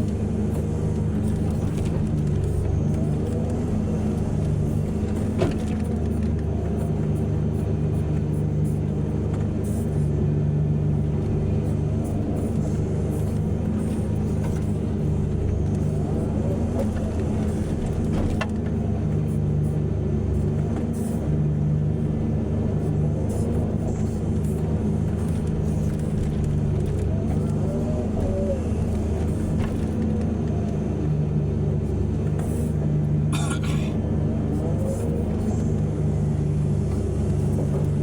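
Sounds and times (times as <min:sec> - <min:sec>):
heavy diesel engines running: 0:00.0 - 0:38.0.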